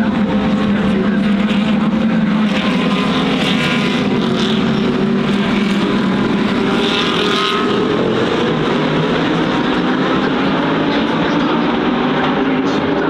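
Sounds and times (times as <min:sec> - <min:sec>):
engine accelerating: 0:00.0 - 0:13.0
race car engines roaring: 0:00.0 - 0:13.0.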